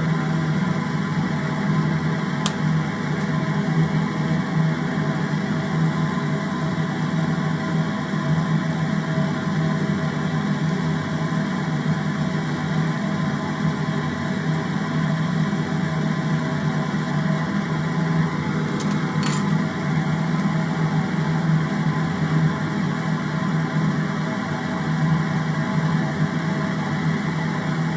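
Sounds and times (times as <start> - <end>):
steady mechanical hum: 0.0 - 27.9.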